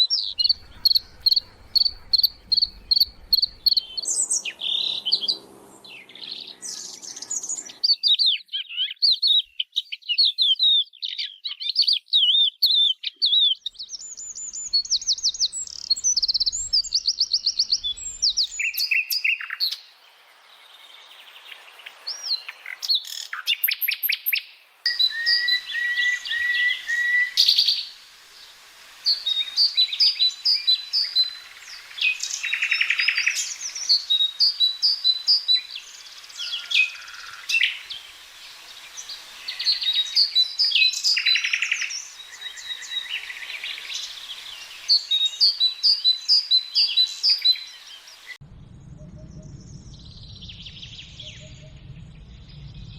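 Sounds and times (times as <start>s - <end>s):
birds chirping and trilling: 0.0s - 9.7s, 12.2s - 48.4s, 49.2s - 52.9s.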